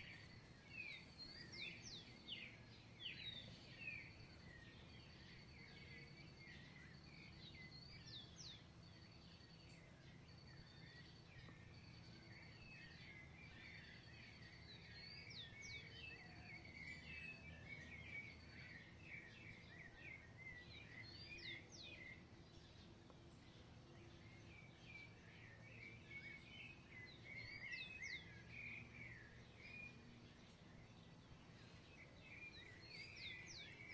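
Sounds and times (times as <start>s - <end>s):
birds chirping faintly: 0.0s - 33.9s.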